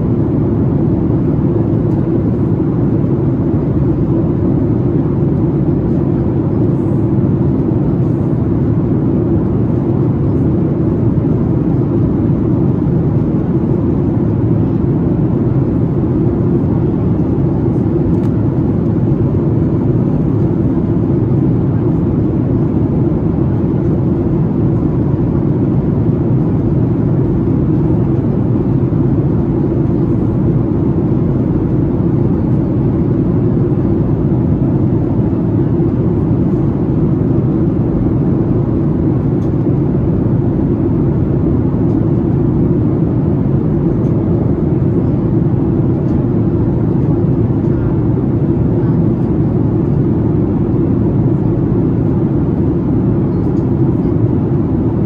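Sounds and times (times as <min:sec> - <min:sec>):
jet engine cabin rush: 0:00.0 - 0:55.0.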